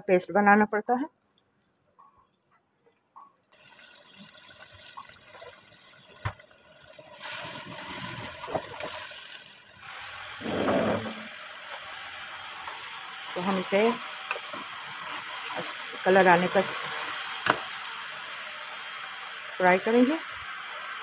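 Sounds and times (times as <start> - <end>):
onion paste sizzling in oil: 3.5 - 21.0.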